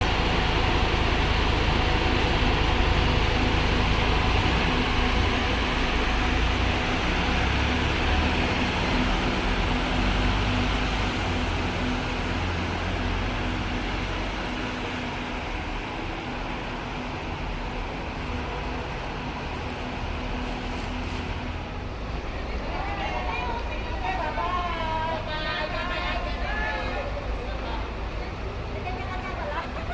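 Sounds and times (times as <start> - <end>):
bus diesel engine rumbling: 0.0 - 29.9.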